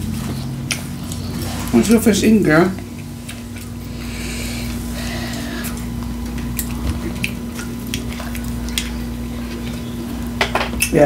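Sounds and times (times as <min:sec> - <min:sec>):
person chewing food: 0:00.0 - 0:02.0, 0:02.7 - 0:10.9
steady low hum: 0:00.0 - 0:11.0.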